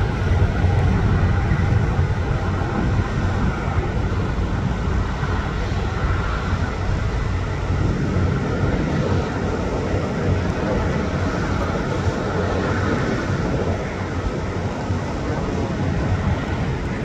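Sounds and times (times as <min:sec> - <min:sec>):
jet engine rumble at takeoff: 0:00.0 - 0:17.0.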